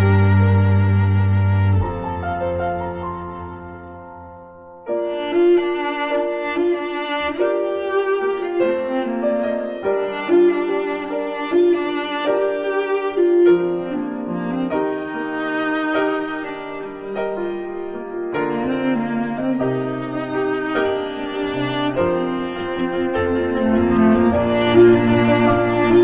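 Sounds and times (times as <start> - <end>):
violin and cello melody: 0.0 - 4.3, 4.9 - 26.0
piano: 0.0 - 26.0.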